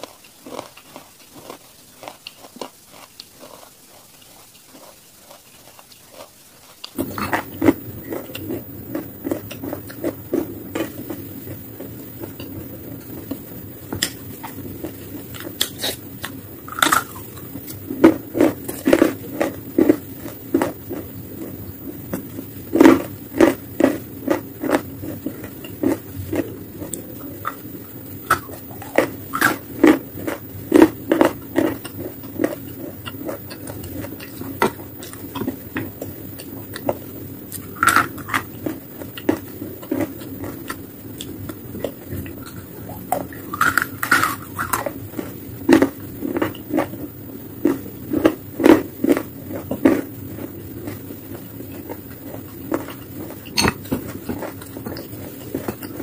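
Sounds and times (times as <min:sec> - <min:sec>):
crunching and chewing chalk: 0:00.0 - 0:56.0.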